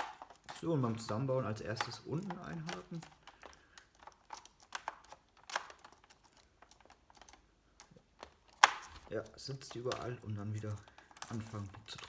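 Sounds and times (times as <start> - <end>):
plastic keyboard clicks and taps: 0.0 - 12.0.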